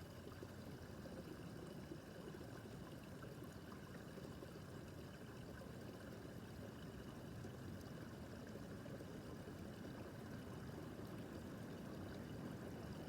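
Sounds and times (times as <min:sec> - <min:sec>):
brook babbling over stones: 0:00.0 - 0:13.0.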